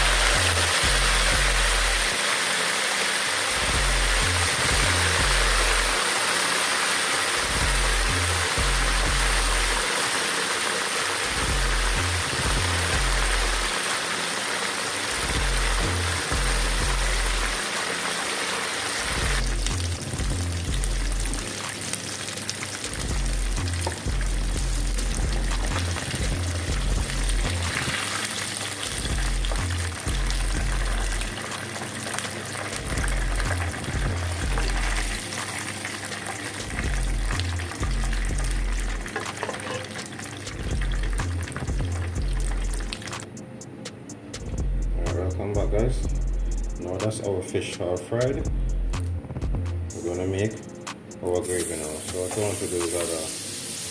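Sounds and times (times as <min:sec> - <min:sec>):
background music with bass line: 0:00.0 - 0:02.2, 0:03.5 - 0:06.0, 0:07.4 - 0:09.9, 0:11.2 - 0:13.8, 0:15.0 - 0:17.6, 0:18.9 - 0:53.2
fish frying in hot oil: 0:00.0 - 0:43.3, 0:51.4 - 0:53.9.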